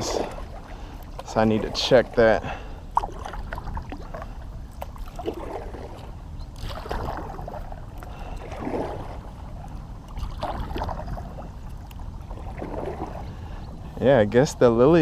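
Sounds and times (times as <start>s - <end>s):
paddle swishing through water: 0.0s - 14.1s.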